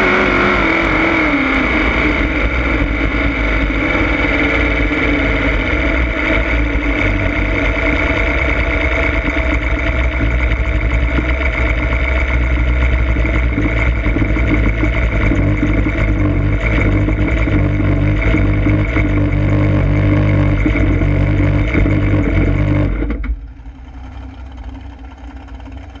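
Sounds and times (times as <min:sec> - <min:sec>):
boat engine running: 0:00.0 - 0:26.0
water and hull noise: 0:02.2 - 0:26.0.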